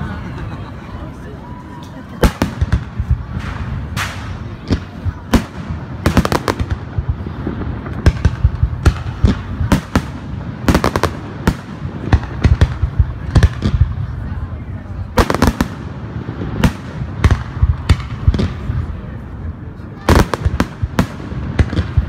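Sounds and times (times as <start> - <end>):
firework bangs and cracks: 2.2 - 22.0.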